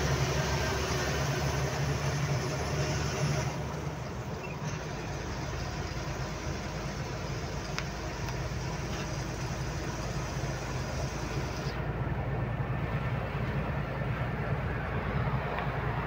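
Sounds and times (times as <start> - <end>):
truck engine running: 0.0 - 16.0
tyre and road noise: 0.0 - 16.0.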